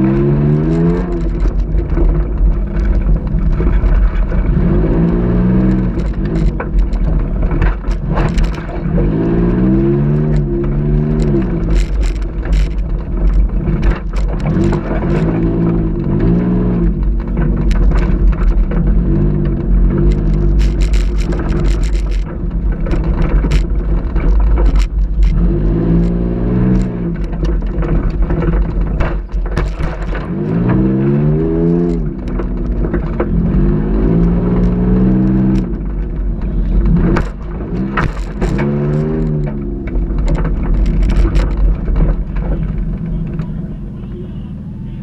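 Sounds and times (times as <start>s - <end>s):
car engine revving: 0.0s - 45.0s
car knocking and rattling: 0.0s - 45.0s.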